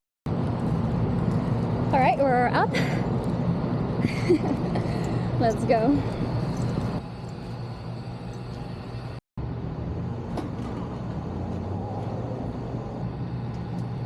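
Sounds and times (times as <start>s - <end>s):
hvac unit mechanical hum: 0.3s - 14.0s.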